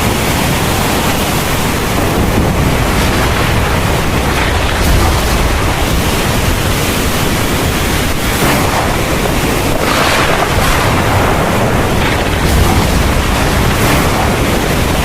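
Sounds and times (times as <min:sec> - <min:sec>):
heavy rain pouring: 0:00.0 - 0:15.0
low thunder rumble: 0:00.0 - 0:15.0.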